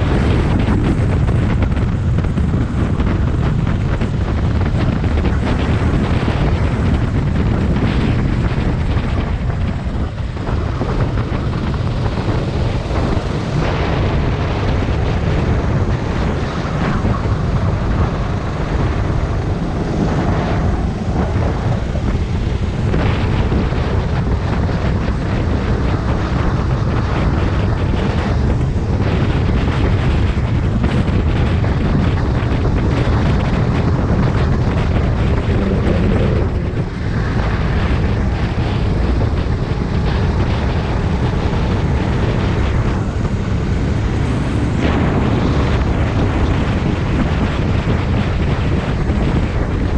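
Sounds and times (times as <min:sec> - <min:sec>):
kart engine running at speed: 0:00.0 - 0:49.9
wind buffeting microphone: 0:00.0 - 0:49.9.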